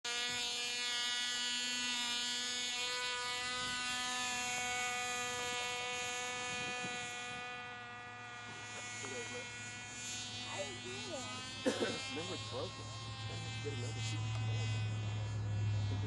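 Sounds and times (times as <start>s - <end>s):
model plane engine buzzing: 0.1s - 16.0s.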